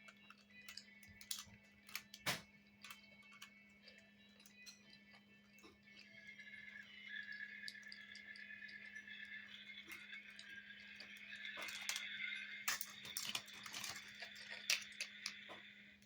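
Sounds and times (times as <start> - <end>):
plastic toys clicking and knocking: 0.0 - 15.8.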